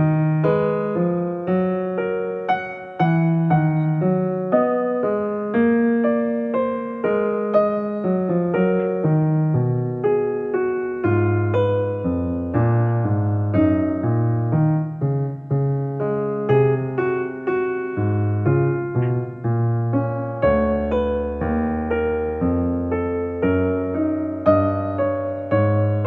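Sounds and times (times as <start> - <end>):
gentle electric piano music: 0.0 - 26.0.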